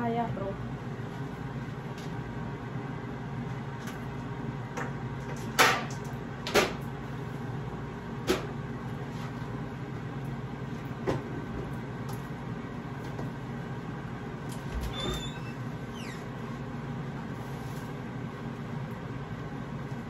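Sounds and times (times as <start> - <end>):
air fryer fan hum: 0.0 - 20.0.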